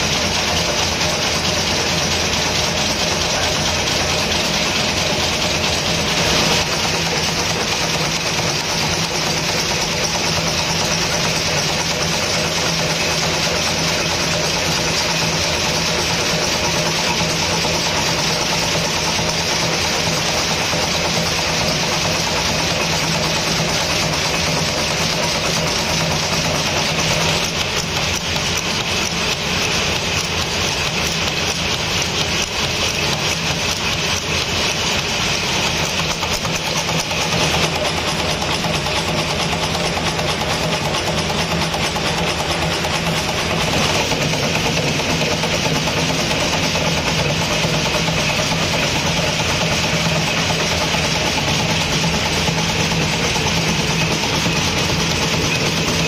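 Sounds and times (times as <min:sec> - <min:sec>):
machine metallic clatter: 0:00.0 - 0:56.0.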